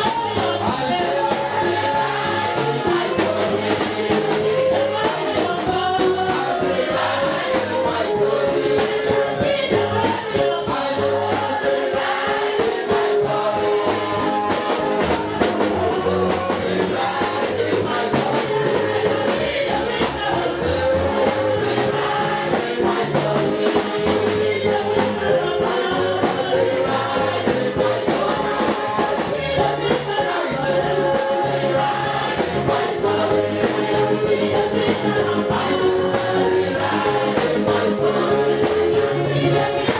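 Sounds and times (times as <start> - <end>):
gospel choir singing: 0.0 - 39.9
steady percussive beat: 0.0 - 39.9
walking bass line: 0.0 - 39.9.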